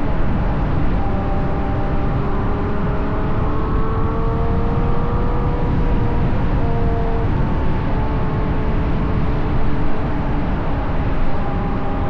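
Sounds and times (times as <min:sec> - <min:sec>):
car engine at road speed: 0:00.0 - 0:12.0
wind and tyre noise: 0:00.0 - 0:12.0.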